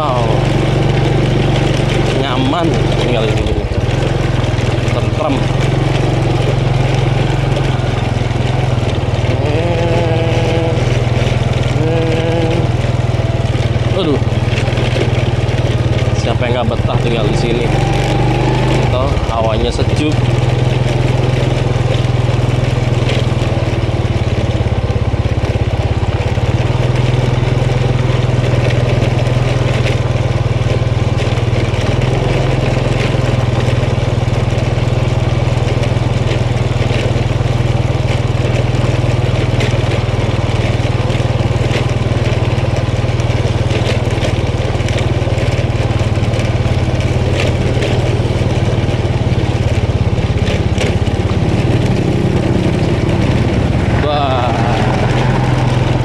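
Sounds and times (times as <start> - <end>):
scooter engine running: 0.0 - 56.0
tyres crunching on dirt road: 0.0 - 56.0.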